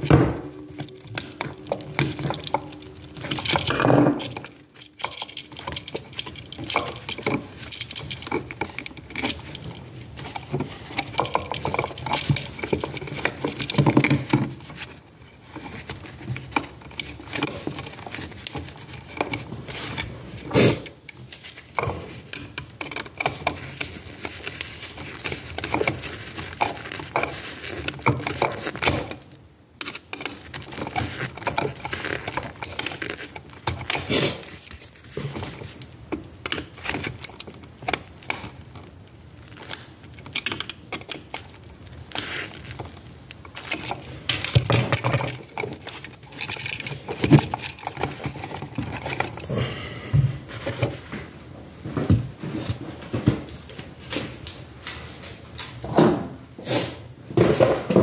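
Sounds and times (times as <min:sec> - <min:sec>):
work gloves rustling: 0:00.0 - 0:55.5.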